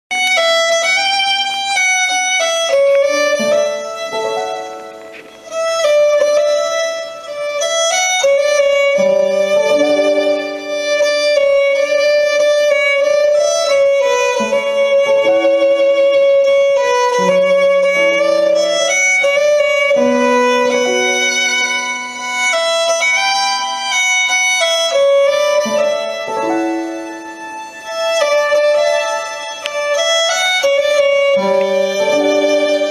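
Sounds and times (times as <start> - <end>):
fiddle tune: 0.1 - 32.9.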